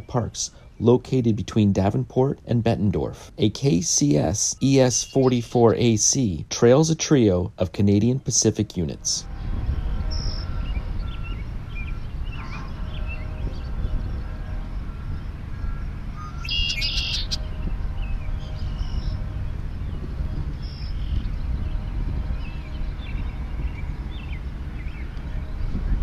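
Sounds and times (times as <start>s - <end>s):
birds chirping: 0.0s - 6.2s, 7.9s - 26.0s
diesel locomotive rumble: 0.0s - 26.0s.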